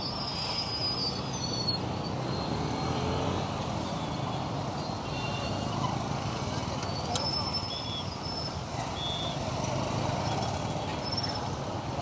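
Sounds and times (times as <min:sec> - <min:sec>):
road noise: 0:00.0 - 0:12.0
motorcycles passing: 0:00.2 - 0:12.0.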